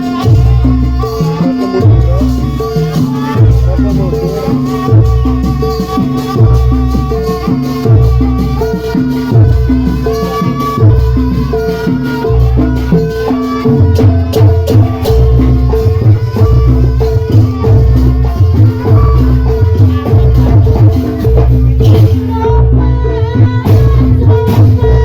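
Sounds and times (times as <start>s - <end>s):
drums fast low beat: 0.0s - 25.0s
high bending melody: 0.0s - 25.0s.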